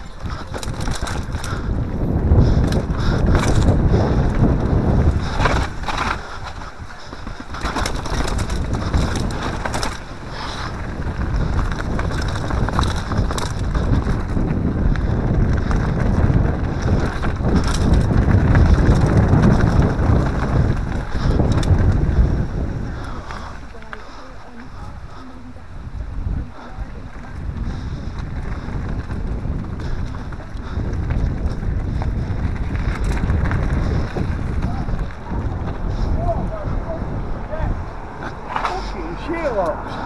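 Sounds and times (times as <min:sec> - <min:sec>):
stones and bike clattering: 0:00.0 - 0:24.7, 0:27.3 - 0:36.1, 0:38.2 - 0:39.0
bike tyres crunching on gravel: 0:00.0 - 0:40.0
wind rushing over microphone: 0:00.0 - 0:40.0.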